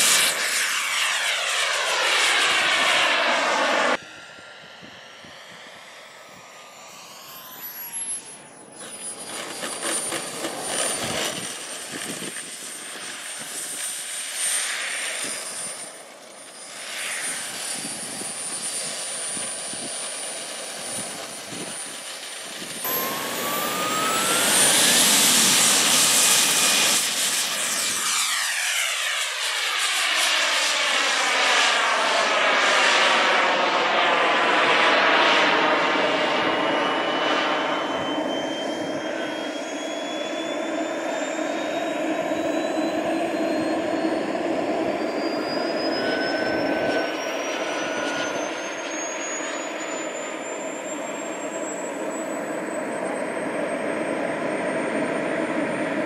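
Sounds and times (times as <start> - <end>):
model airplane motors whining: 0.0 - 56.0
model airplane passing by: 0.0 - 56.0.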